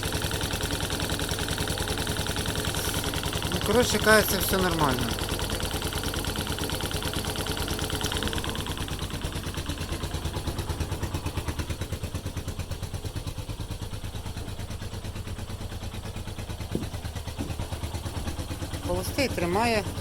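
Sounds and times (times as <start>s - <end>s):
light engine tapping: 0.0s - 20.0s
motorcycle engine idling: 0.0s - 20.0s.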